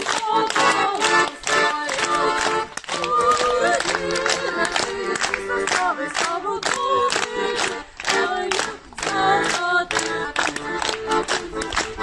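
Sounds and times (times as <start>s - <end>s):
rhythmic claps: 0.0s - 12.0s
women singing together: 0.0s - 12.0s.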